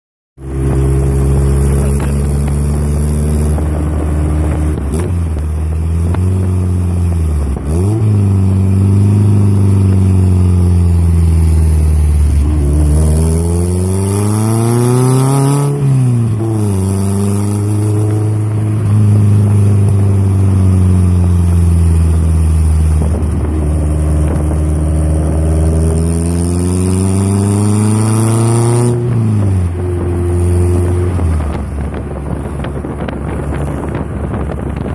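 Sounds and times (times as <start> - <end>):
car engine accelerating: 0.4 - 34.9
road noise: 0.4 - 34.9
wind noise: 0.4 - 34.9.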